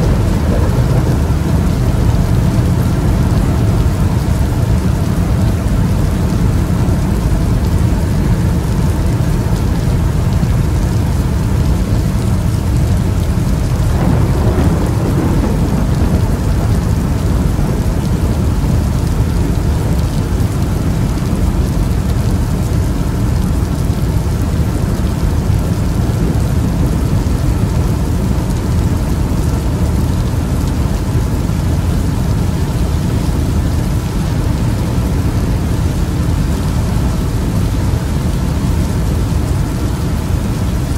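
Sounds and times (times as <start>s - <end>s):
low rumble of thunder: 0.0s - 40.9s
steady rain: 0.0s - 40.9s.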